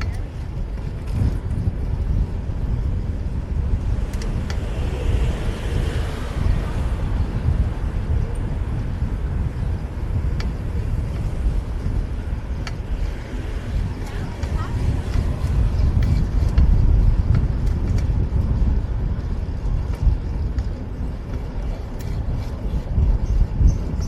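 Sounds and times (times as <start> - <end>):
city traffic: 0.0 - 24.0
wind buffeting microphone: 0.0 - 24.0.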